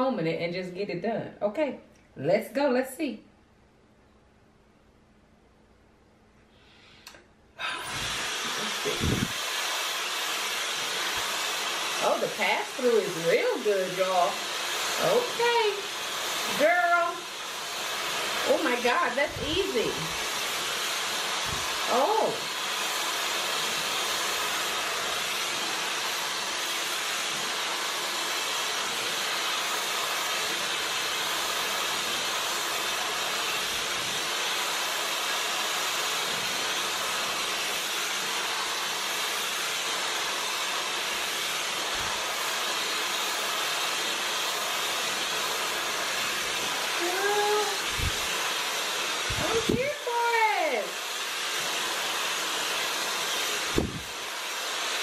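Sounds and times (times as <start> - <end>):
hair dryer airflow hiss: 6.5 - 55.0.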